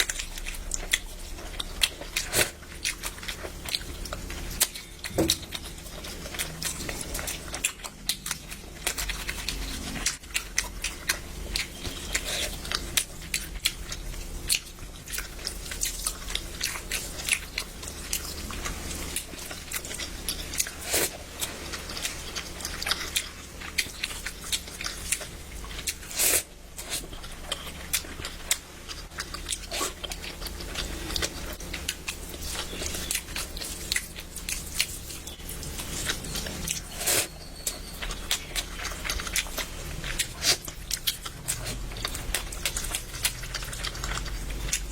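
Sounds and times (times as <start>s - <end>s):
person chewing and eating: 0.0s - 44.9s.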